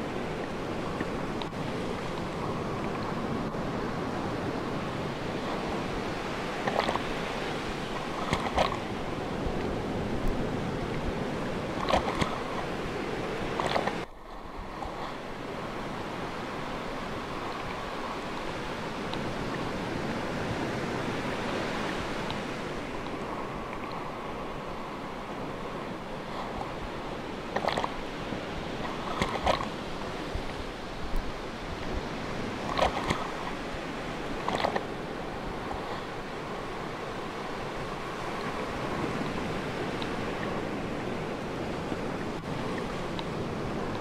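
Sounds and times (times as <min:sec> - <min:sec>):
sea surf washing: 0:00.0 - 0:44.0
water splashes: 0:00.0 - 0:44.0.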